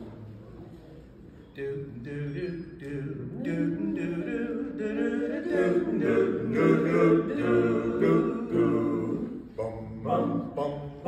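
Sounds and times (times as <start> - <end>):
male a cappella quartet singing: 1.6 - 11.0.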